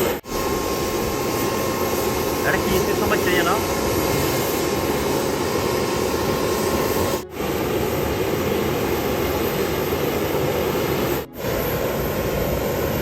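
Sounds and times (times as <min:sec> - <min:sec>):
jet engine running: 0:00.0 - 0:13.0.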